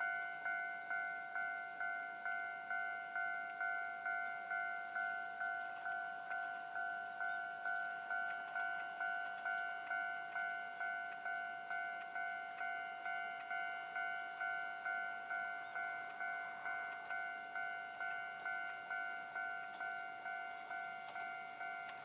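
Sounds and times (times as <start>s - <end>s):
level crossing bell ringing: 0.0s - 22.0s.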